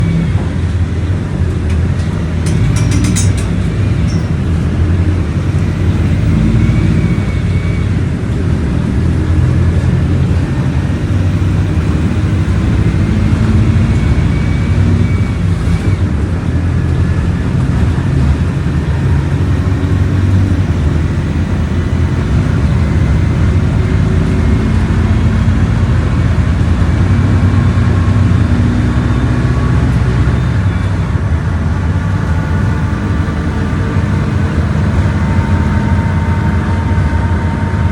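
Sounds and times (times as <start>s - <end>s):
bus engine running: 0.0s - 37.9s.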